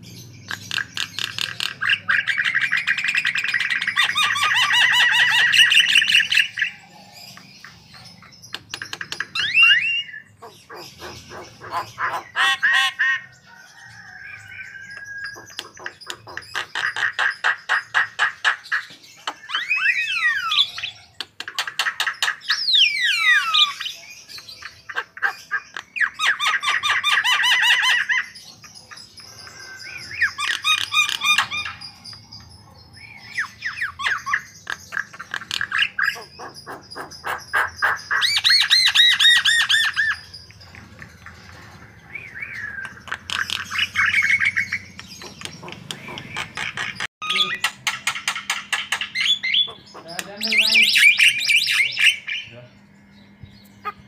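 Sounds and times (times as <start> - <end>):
bird singing trills and whistles: 0.0 - 54.0.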